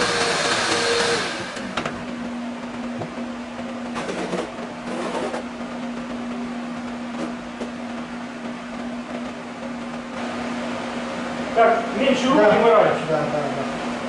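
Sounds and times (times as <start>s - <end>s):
shop vacuum motor humming: 0.0s - 14.0s.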